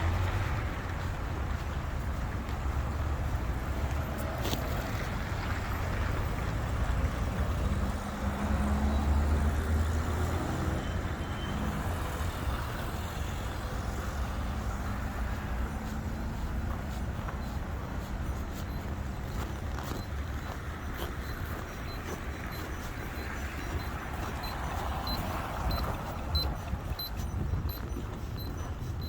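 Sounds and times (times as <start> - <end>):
road traffic rumble: 0.0 - 29.0
heavy vehicle engine passing: 2.6 - 29.0.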